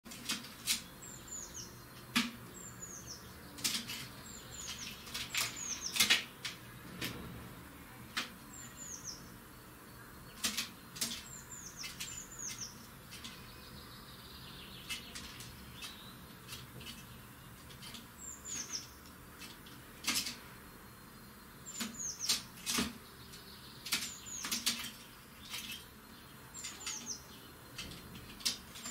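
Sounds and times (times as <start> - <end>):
high falling bird chirps: 0.8 - 7.7, 8.4 - 19.2, 20.4 - 28.9.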